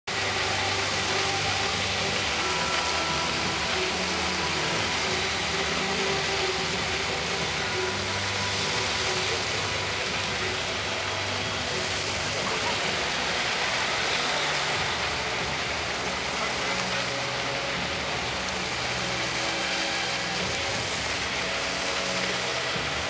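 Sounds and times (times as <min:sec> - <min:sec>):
water spraying from nozzle: 0:00.1 - 0:23.0.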